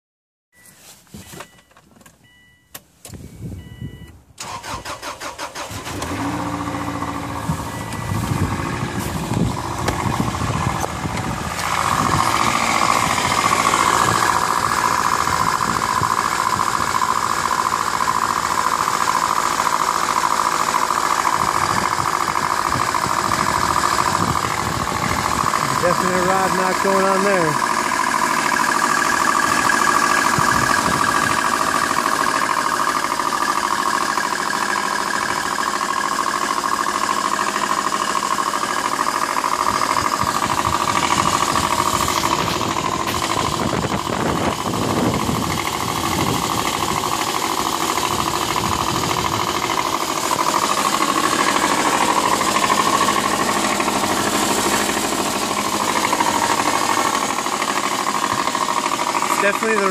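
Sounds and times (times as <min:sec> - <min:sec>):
car engine running: 0:00.8 - 0:59.9
rapid metallic engine knock: 0:09.3 - 0:25.8, 0:27.6 - 0:59.9.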